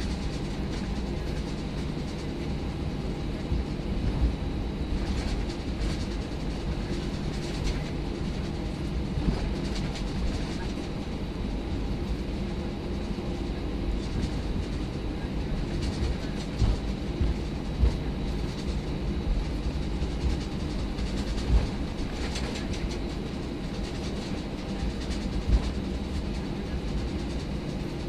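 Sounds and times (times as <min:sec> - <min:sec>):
airplane cabin rumble: 0:00.0 - 0:28.0.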